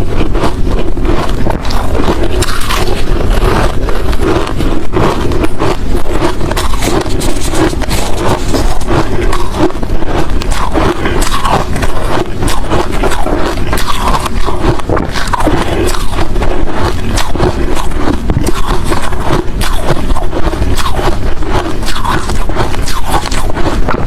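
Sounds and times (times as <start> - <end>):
ice crunching between teeth: 0.0 - 24.0.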